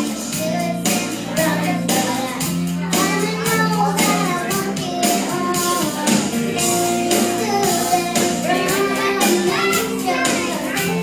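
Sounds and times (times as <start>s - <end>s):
girl singing into microphone: 0.0s - 11.0s
pop-rock backing track: 0.0s - 11.0s.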